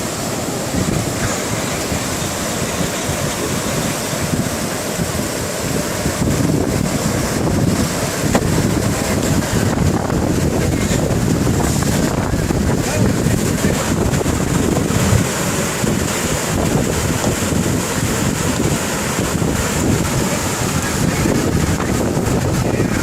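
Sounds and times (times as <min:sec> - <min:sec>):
flood water rushing: 0:00.0 - 0:23.0
wind buffeting microphone: 0:00.0 - 0:23.0.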